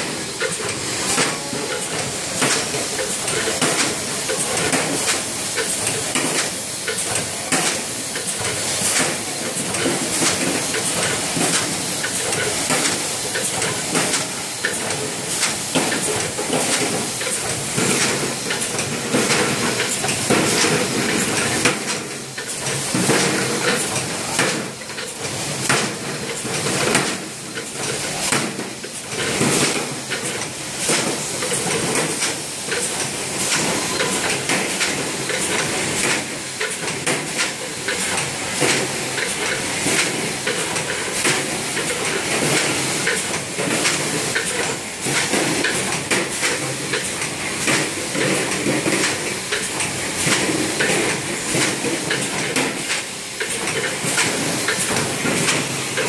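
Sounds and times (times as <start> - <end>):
printing machine hissing: 0.0 - 56.0.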